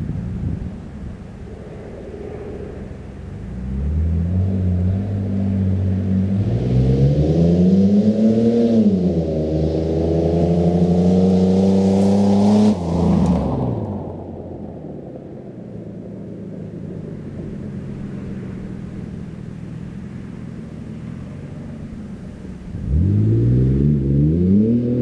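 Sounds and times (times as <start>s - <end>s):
car accelerating past: 1.3s - 25.0s.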